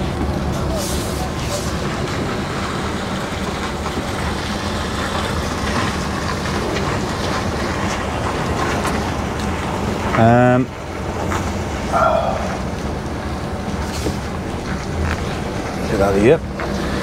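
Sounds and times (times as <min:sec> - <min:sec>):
lorry engine hum: 0:00.0 - 0:17.0
road noise: 0:00.0 - 0:17.0.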